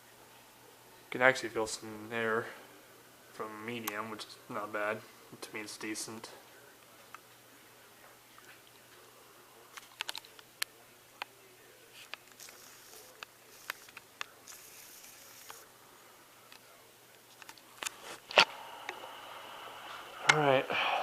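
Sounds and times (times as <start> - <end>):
ceiling fan hum: 0.0 - 21.0.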